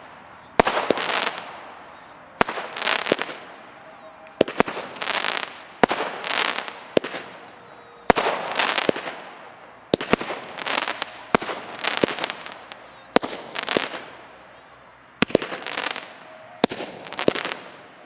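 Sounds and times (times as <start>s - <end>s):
firework crackling: 0.0s - 18.0s
firework launch bangs: 0.6s - 1.7s, 2.4s - 3.6s, 4.4s - 14.2s, 15.2s - 17.9s.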